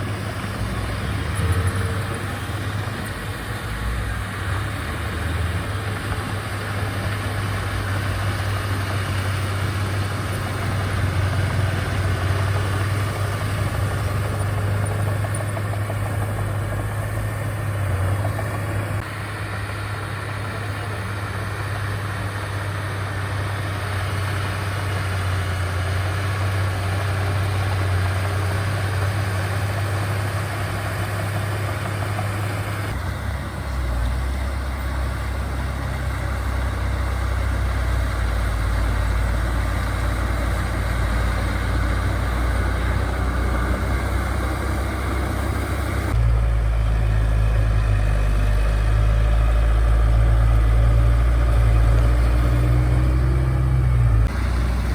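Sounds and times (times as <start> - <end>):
diesel engines humming: 0.0 - 54.9.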